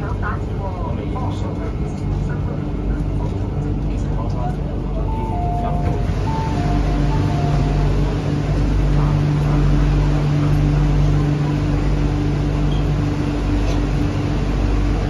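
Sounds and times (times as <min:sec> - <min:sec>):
low hum: 0:00.0 - 0:15.0
train cabin rumble: 0:00.0 - 0:15.0.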